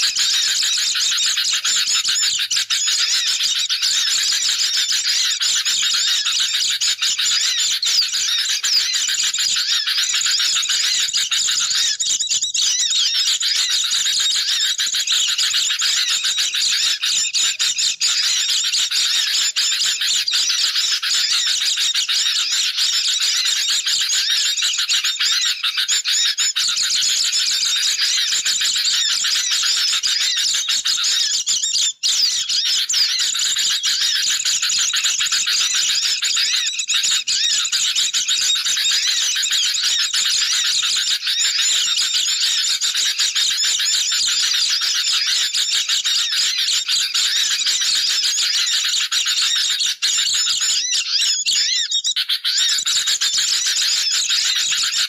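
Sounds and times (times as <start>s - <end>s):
chorus of birds chirping: 0.0s - 55.0s.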